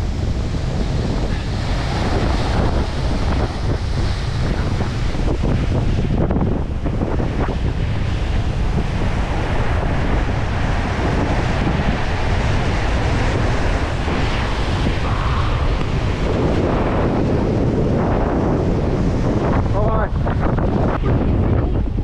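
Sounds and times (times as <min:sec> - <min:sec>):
ocean surf breaking on rocks: 0:00.0 - 0:21.6
wind buffeting microphone: 0:00.0 - 0:22.0.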